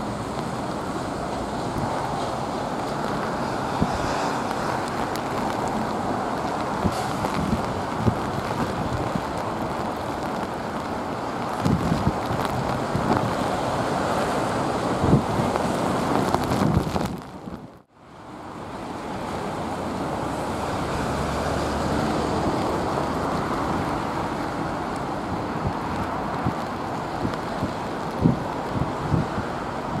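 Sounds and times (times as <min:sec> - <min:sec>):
storm wind buffeting microphone: 0:00.0 - 0:17.8, 0:19.0 - 0:30.0.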